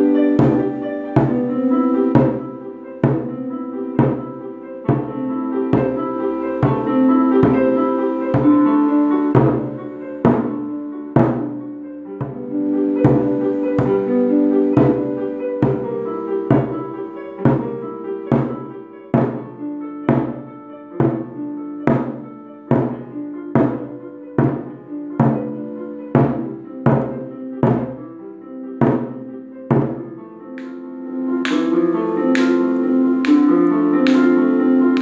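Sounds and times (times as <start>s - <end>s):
music with sustained notes: 0.0s - 35.0s.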